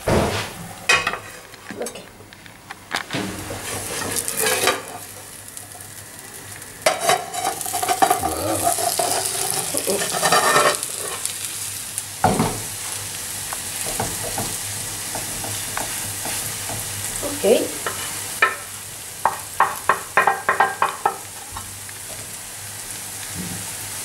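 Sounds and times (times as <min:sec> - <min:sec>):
omelette sizzling in a frying pan: 0:02.3 - 0:24.0
wooden spoon working a pan: 0:02.9 - 0:22.3.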